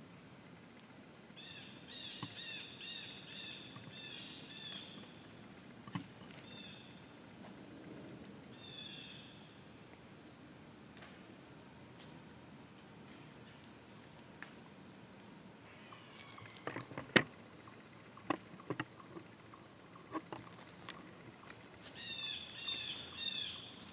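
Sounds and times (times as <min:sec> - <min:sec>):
high insect drone: 0:00.0 - 0:23.9.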